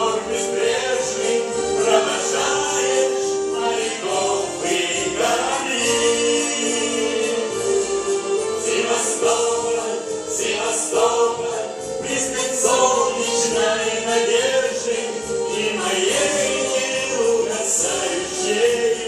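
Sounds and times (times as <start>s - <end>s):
backing track music: 0.0s - 19.0s
men singing together: 0.0s - 19.0s.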